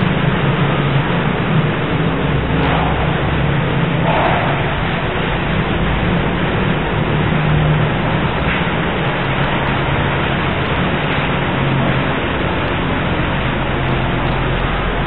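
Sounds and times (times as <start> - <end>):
low droning hum: 0.0 - 15.0
steady rushing noise: 0.0 - 15.0.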